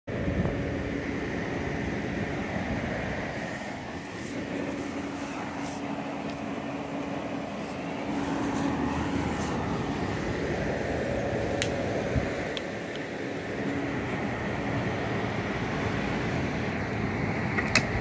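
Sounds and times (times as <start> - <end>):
lawn mower engine running: 0.1 - 18.0.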